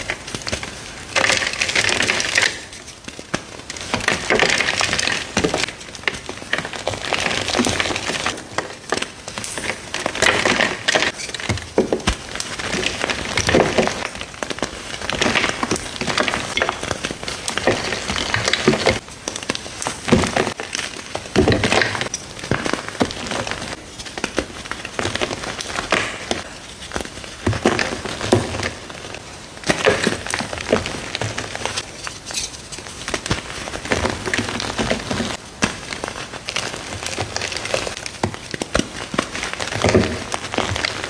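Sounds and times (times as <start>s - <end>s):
concrete being mixed: 0.0s - 41.0s.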